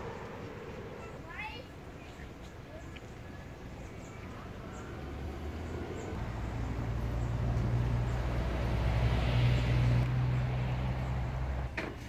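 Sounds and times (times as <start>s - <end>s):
low engine rumble: 0.0s - 11.8s.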